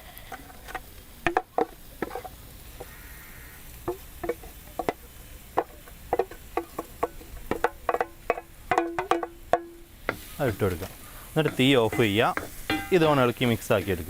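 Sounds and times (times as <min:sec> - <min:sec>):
spoon knocking and scraping pan: 0:00.3 - 0:03.0, 0:03.8 - 0:14.0.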